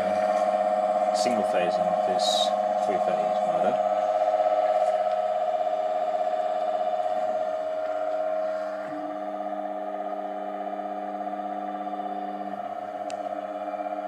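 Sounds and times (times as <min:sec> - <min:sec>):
electric motor humming: 0:00.0 - 0:14.0
low motor tone: 0:00.0 - 0:14.0.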